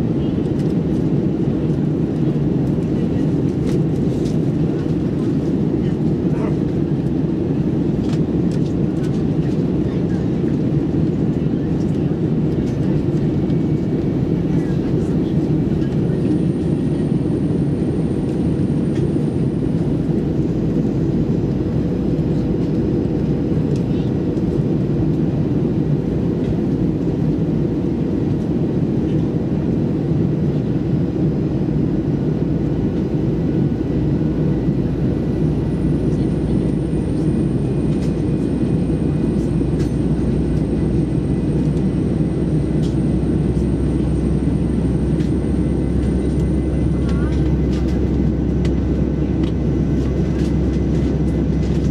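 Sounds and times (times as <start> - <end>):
airplane cabin engine rush: 0.0 - 51.9.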